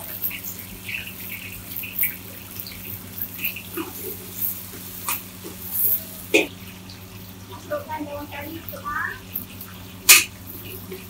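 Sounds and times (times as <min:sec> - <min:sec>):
frying in a wok: 0:00.0 - 0:11.0
steady low hum: 0:00.0 - 0:11.0.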